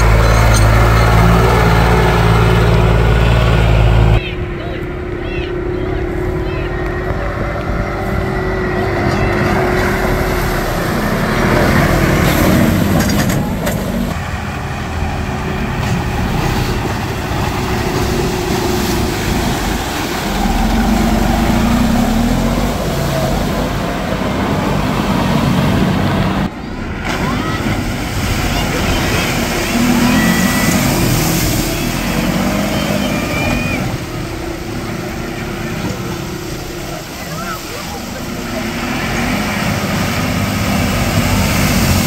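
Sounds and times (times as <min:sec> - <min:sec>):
tractor diesel engine working hard: 0:00.0 - 0:42.0
tractor ploughing through mud: 0:00.0 - 0:42.0.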